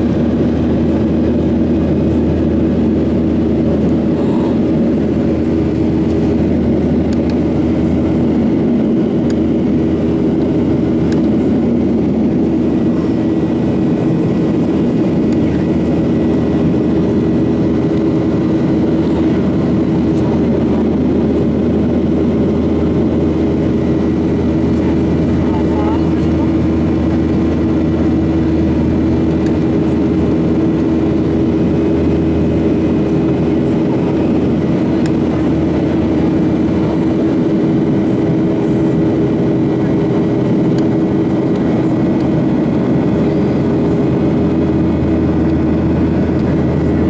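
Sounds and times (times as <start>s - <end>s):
jet engines and rushing air drone: 0.0s - 47.0s
steady low hum: 0.0s - 47.0s.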